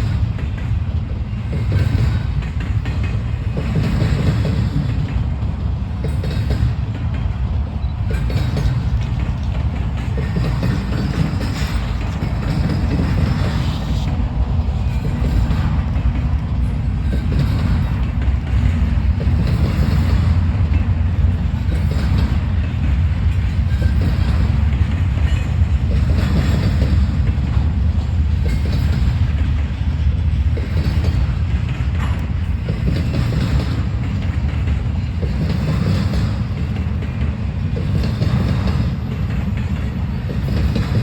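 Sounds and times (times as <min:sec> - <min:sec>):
train wheels rumbling on rail: 0:00.0 - 0:41.0
wheels clacking over rail joints: 0:00.0 - 0:41.0.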